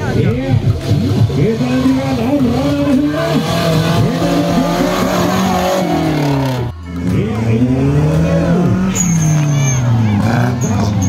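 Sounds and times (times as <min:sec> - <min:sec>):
off-road buggy engines revving: 0:00.0 - 0:11.0.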